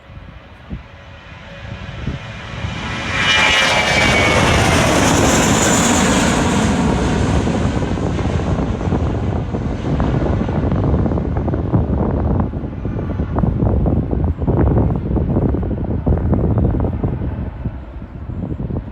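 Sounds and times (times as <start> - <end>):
jet airliner taking off: 0.0 - 18.9.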